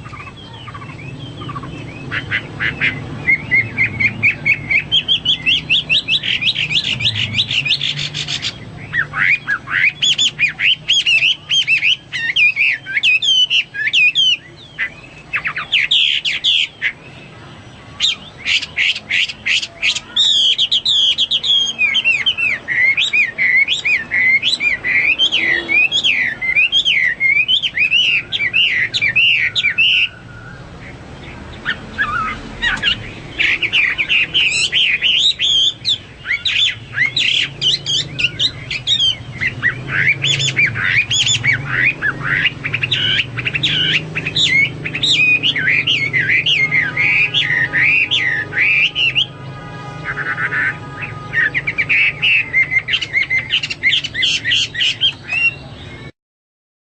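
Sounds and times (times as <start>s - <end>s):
bird singing whistled song: 0.0s - 49.3s, 50.1s - 56.1s.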